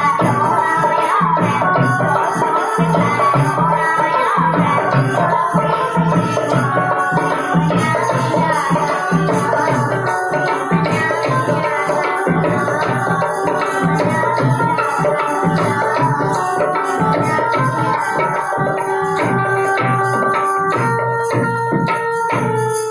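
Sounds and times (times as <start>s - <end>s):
hand drum beat: 0.0s - 22.9s
sustained melody: 3.0s - 22.9s.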